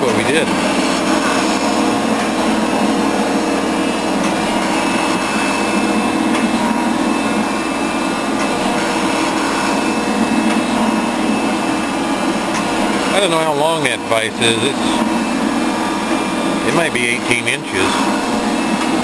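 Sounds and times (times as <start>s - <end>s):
metal shaper ram stroking: 0.0s - 19.0s.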